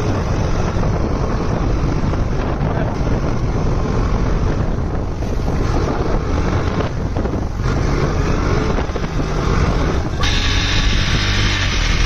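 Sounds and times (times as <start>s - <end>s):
motorcycle engine drone: 0.0s - 12.0s
wind rushing over microphone: 0.0s - 12.0s.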